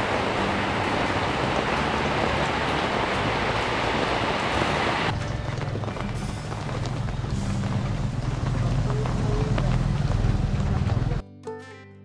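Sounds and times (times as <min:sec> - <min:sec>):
steady rain falling: 0:00.0 - 0:11.2.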